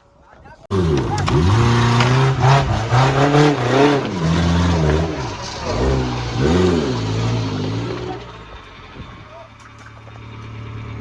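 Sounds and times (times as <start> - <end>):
off-road vehicle engine revving: 0.7 - 11.0.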